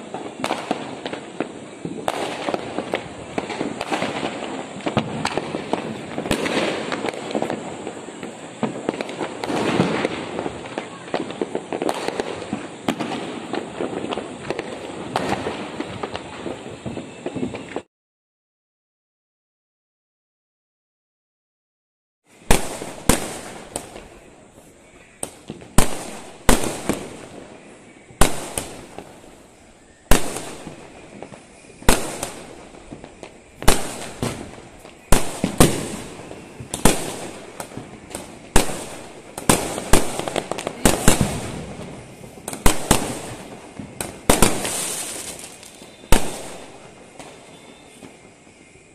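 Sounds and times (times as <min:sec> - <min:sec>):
fireworks bangs: 0:00.0 - 0:17.9, 0:22.3 - 0:48.9.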